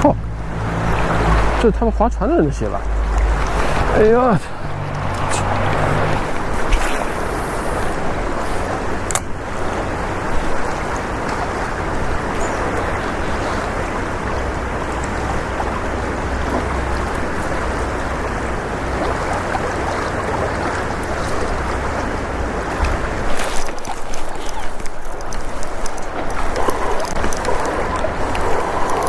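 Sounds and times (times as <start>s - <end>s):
river water rushing over rocks: 0.0s - 29.0s
wind rumble on microphone: 0.0s - 29.0s.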